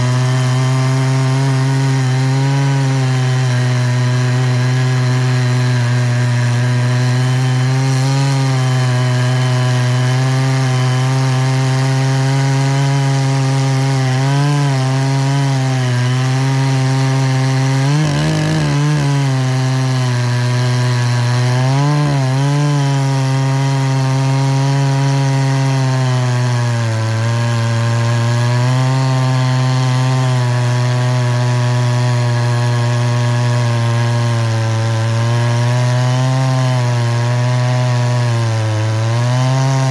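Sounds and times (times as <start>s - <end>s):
power tool motor humming: 0.0s - 39.9s.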